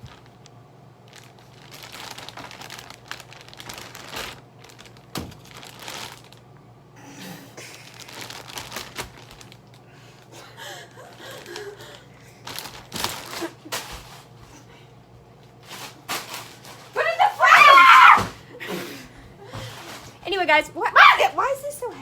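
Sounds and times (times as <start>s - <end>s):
crinkling rustling handling noise: 0.0s - 6.7s, 7.6s - 14.7s, 15.3s - 22.0s.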